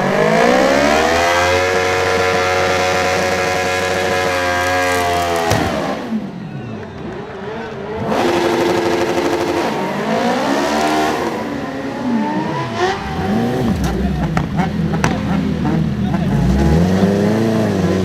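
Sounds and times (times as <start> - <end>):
motorcycle engine revving hard: 0.0 - 6.3, 7.5 - 18.0.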